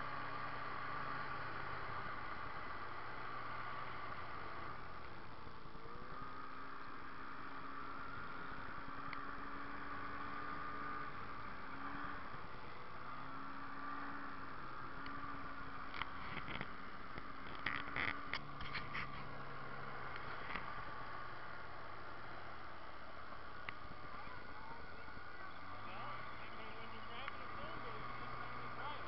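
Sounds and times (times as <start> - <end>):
snowmobile engine running: 0.0 - 29.0.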